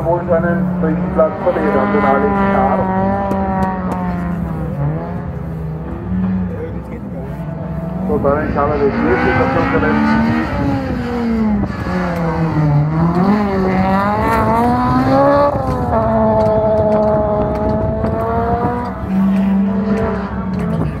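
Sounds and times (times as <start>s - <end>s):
car engine revving hard: 0.0s - 21.0s.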